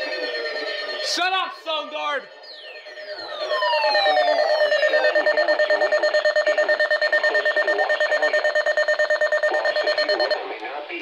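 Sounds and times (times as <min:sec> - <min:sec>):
radio alarm pulsing beep: 0:00.0 - 0:10.4.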